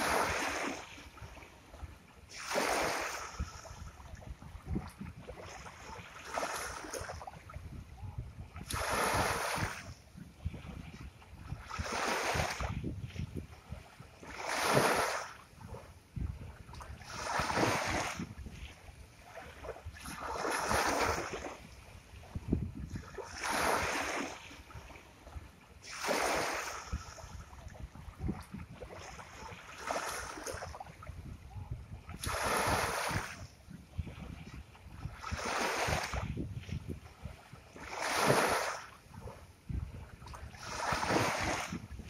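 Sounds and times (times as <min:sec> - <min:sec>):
small waves breaking on beach: 0:00.0 - 0:42.0.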